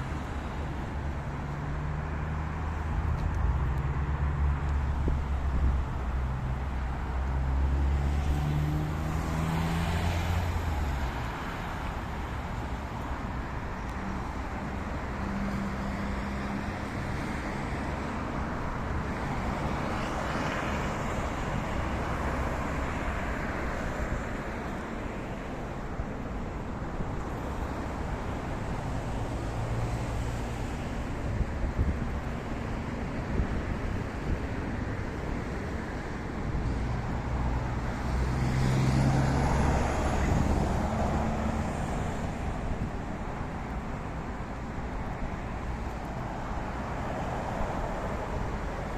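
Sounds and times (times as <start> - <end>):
passing cars: 0.0 - 48.9.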